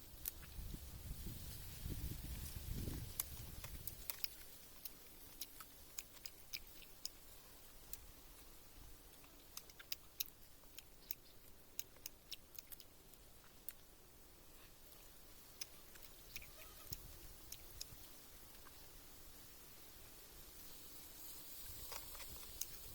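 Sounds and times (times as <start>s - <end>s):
faint small clicks and ticks: 0.1s - 0.8s, 2.2s - 14.0s, 14.6s - 18.9s, 21.2s - 22.9s.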